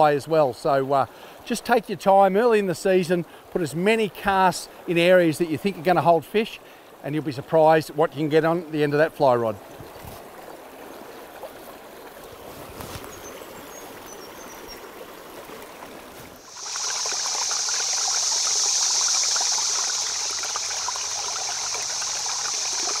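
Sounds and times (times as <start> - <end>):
close babbling water rush: 0.0 - 23.0
creek running water: 0.0 - 23.0.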